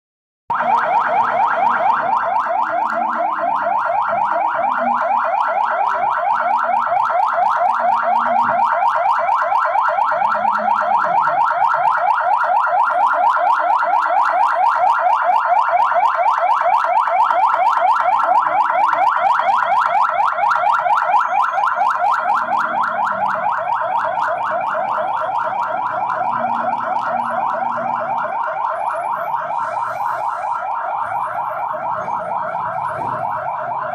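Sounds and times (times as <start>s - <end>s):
pulsing electronic alarm tone: 0.5s - 33.9s.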